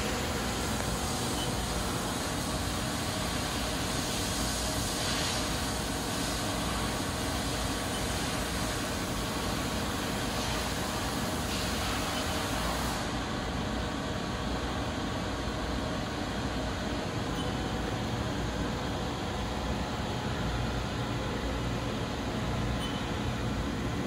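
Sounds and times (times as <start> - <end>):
machinery and ventilation hum: 0.0 - 24.0.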